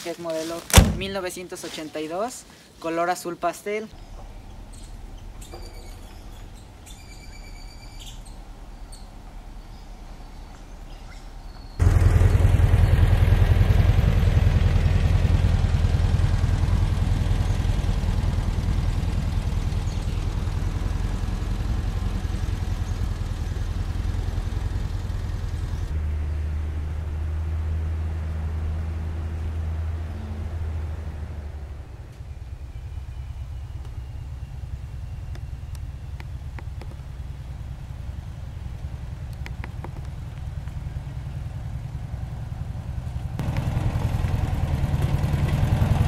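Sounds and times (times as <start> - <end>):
birds chirping: 0.0 - 14.2, 16.4 - 27.2, 28.1 - 44.5
car engine driving: 0.6 - 1.2, 4.0 - 46.0.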